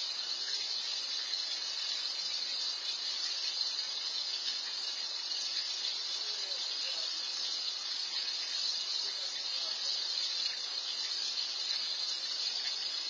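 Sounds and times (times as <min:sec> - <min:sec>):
high-pitched outdoor hiss: 0:00.0 - 0:13.0.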